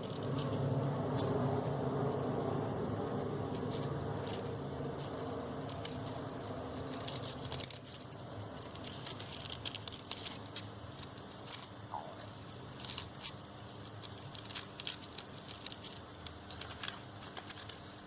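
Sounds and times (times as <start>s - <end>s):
low background rumble: 0.0s - 18.0s
crepe paper rustling: 3.4s - 18.0s.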